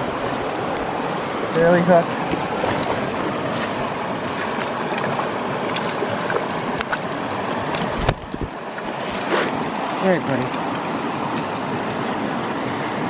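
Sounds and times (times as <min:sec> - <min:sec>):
brook running over rocks: 0:00.0 - 0:11.2.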